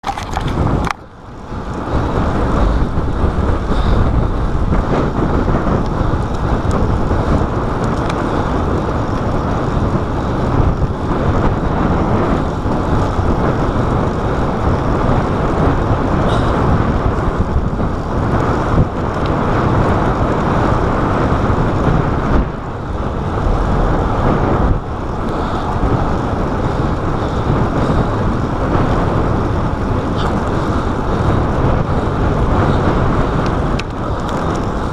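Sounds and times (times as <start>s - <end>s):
road noise: 0.0s - 34.9s
wind rush on microphone: 0.0s - 34.9s.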